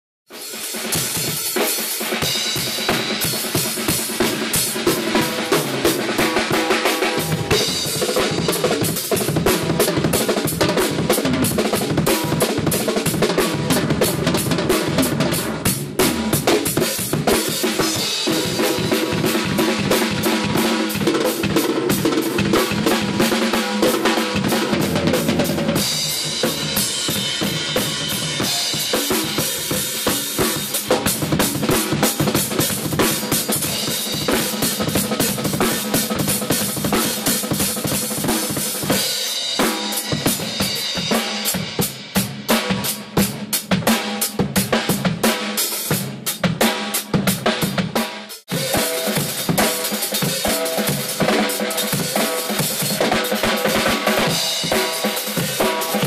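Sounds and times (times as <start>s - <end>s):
fast drum kit playing: 0.3s - 56.0s
pitched music: 0.4s - 43.7s, 48.5s - 56.0s.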